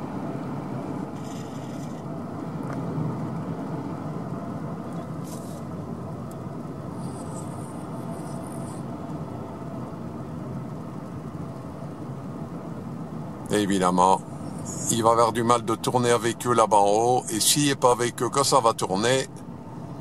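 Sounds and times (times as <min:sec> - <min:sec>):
car engine and tyre rumble: 0:00.0 - 0:20.0
faint high-pitched whine: 0:00.0 - 0:20.0.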